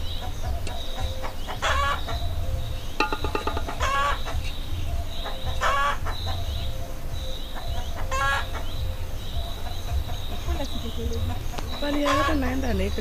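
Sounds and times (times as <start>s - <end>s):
chickens clucking: 0.0s - 13.0s
thin high chirping: 0.0s - 13.0s.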